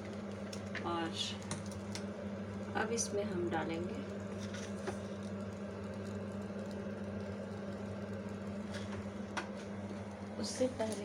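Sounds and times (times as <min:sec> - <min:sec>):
gas burner hiss and hum: 0:00.0 - 0:11.0.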